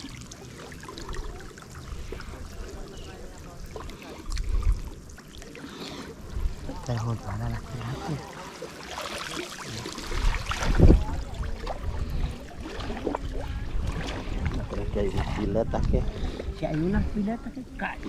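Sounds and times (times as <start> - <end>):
people wading through shallow water: 0.0 - 18.0.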